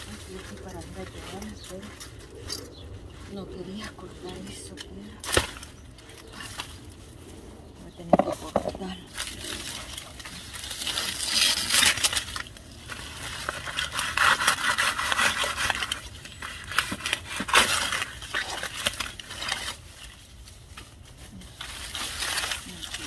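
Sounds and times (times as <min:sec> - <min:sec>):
dry leaves rustling and crackling: 0:00.0 - 0:23.0.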